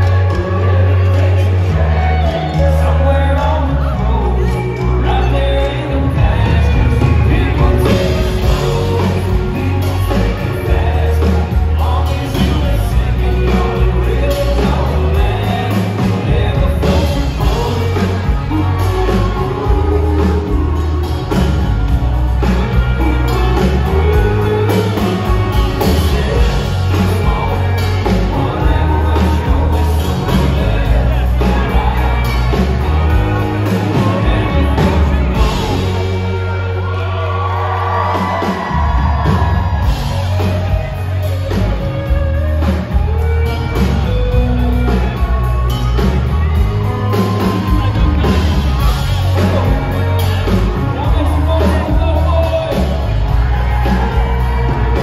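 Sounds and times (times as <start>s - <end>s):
bass beat: 0.0s - 55.0s
drums: 0.0s - 55.0s
electric guitars: 0.0s - 55.0s.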